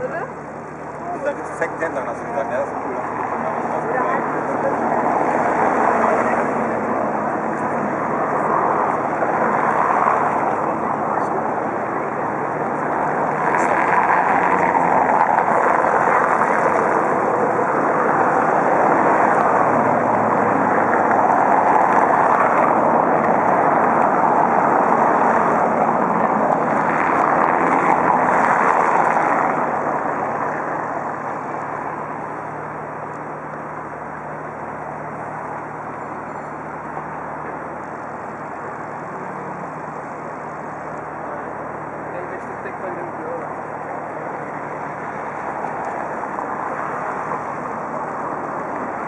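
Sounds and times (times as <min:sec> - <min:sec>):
road traffic passing: 0:00.0 - 0:49.0.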